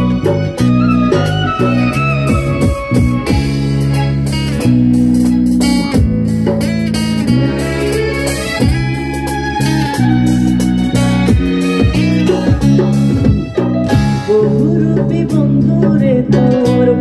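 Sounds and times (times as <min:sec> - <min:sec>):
held keyboard chords: 0:00.0 - 0:17.0.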